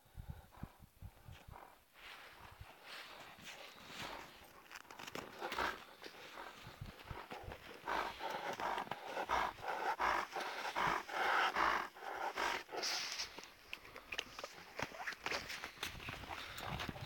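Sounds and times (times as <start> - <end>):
dog panting: 0.1 - 14.9.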